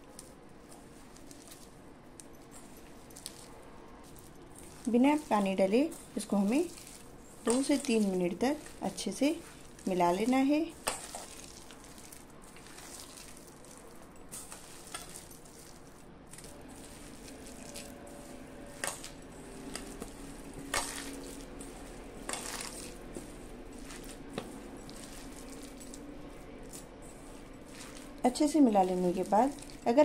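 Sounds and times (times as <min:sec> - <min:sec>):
rustle and squish of damp vegetables: 0:00.0 - 0:30.0.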